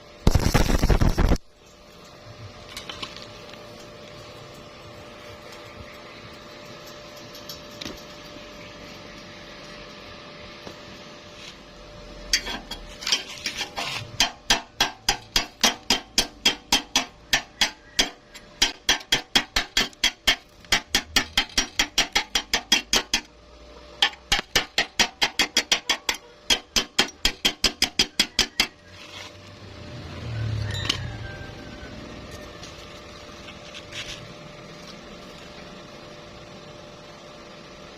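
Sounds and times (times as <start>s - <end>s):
steady background hum: 0.0s - 37.9s.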